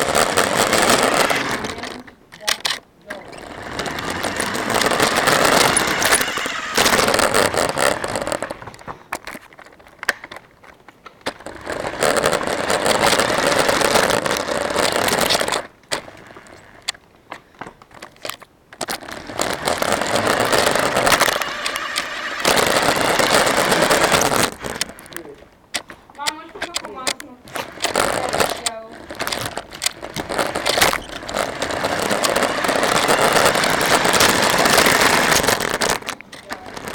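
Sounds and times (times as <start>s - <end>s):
rc car motor and tyres rattling: 0.0s - 36.9s
small clicks and crackles: 0.0s - 36.9s.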